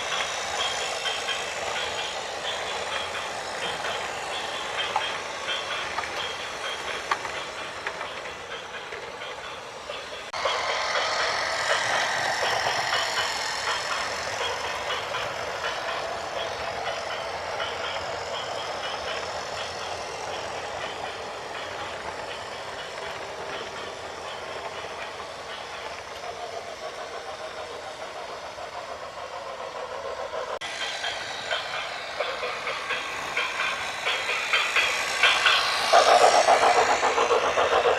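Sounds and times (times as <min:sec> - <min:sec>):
machinery rattling and clanking: 0:00.0 - 0:37.9.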